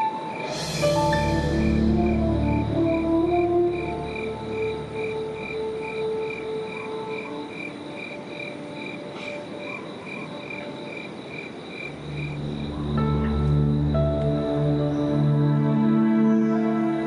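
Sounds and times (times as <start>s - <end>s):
frogs croaking: 1.2s - 17.0s.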